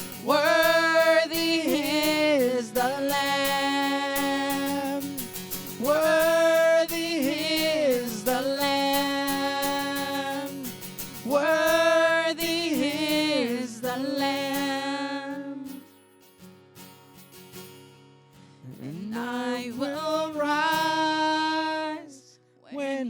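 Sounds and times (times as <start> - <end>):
person singing: 0.0 - 15.9, 18.7 - 23.0
acoustic guitar: 0.0 - 23.0.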